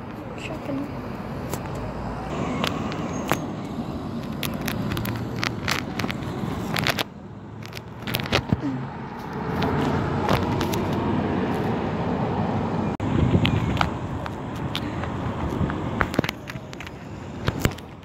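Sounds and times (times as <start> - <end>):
bus engine rumbling: 0.0 - 18.0
passing road traffic: 0.0 - 18.0.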